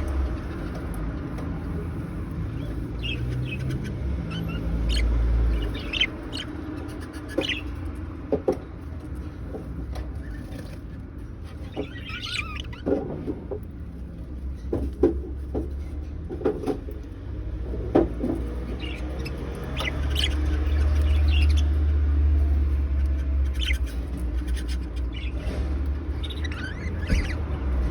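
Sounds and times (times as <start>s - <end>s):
budgies chirping and chattering: 0.0s - 27.9s.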